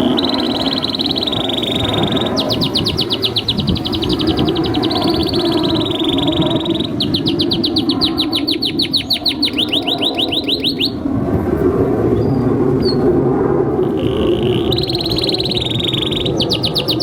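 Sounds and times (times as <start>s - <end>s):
canary singing a fast trill: 0.0s - 11.0s, 13.8s - 17.0s
faint bird chirps: 0.0s - 11.0s, 13.9s - 17.0s.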